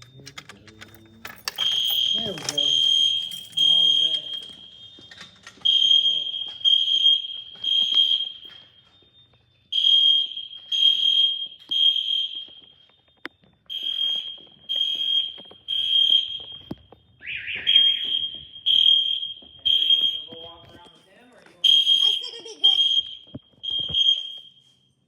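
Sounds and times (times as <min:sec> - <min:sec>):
fire alarm beeping: 0:00.0 - 0:25.0.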